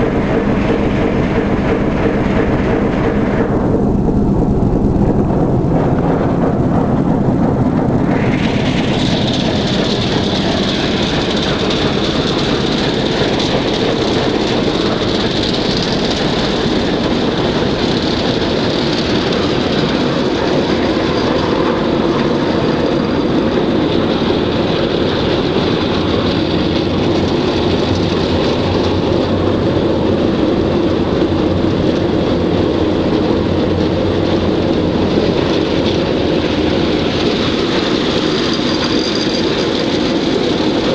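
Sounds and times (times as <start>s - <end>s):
diesel locomotive engine rumbling: 0.0s - 40.9s
high-pitched whine: 0.0s - 40.9s.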